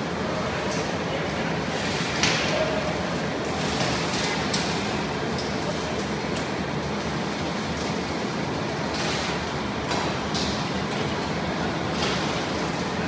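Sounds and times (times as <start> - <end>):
furnace machinery running: 0.0 - 13.0.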